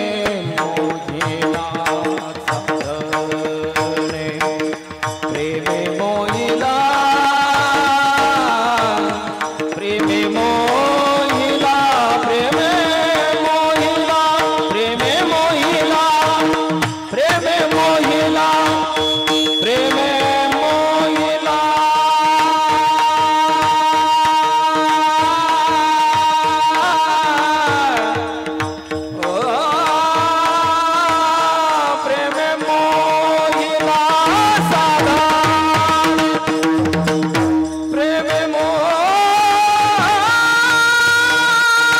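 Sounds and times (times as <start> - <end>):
tabla drumming: 0.0 - 41.9.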